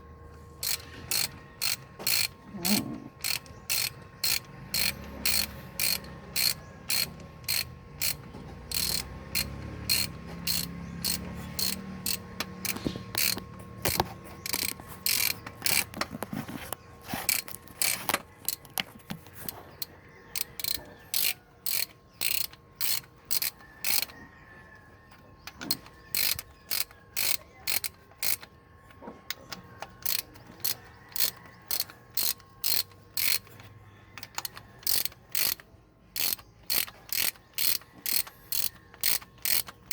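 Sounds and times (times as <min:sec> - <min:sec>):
ratchet wrench clicking: 0:00.6 - 0:16.4, 0:17.2 - 0:24.2, 0:25.2 - 0:39.9.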